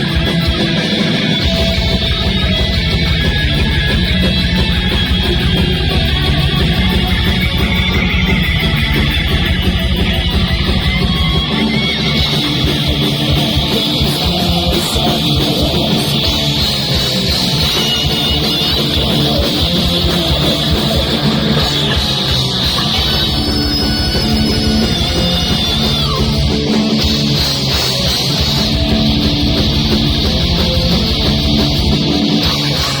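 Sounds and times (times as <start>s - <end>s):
heavy metal band playing live: 0.0s - 33.0s
high lead guitar line: 0.0s - 33.0s.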